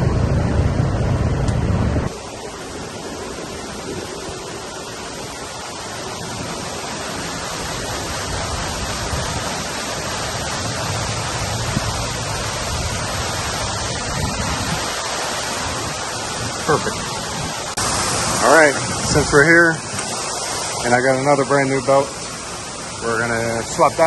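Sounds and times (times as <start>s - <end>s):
fan moving air: 0.0s - 24.0s
water falling: 2.1s - 24.0s.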